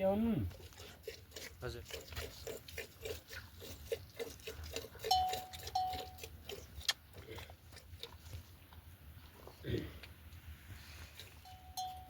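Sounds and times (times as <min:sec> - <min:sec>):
livestock snuffling and clicks: 0:00.5 - 0:12.0.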